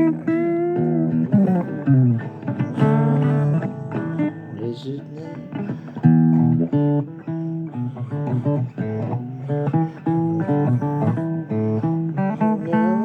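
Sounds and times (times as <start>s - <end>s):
blues guitar playing: 0.0s - 13.0s
person singing: 0.0s - 13.0s.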